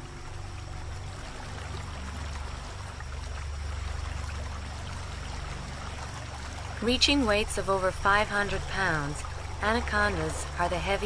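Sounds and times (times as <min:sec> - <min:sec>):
stream flowing over stones: 0:00.0 - 0:11.0.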